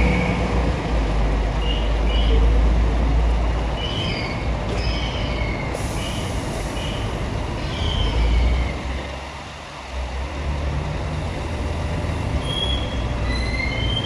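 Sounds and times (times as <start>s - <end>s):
diesel bus engine rumble: 0.0s - 14.0s.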